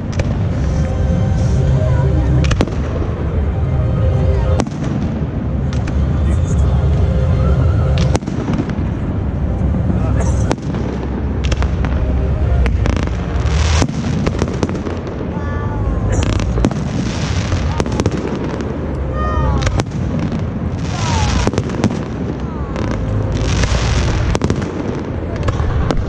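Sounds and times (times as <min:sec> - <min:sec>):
fireworks bangs and crackles: 0:00.0 - 0:01.5, 0:02.2 - 0:03.5, 0:04.4 - 0:06.9, 0:07.9 - 0:26.0.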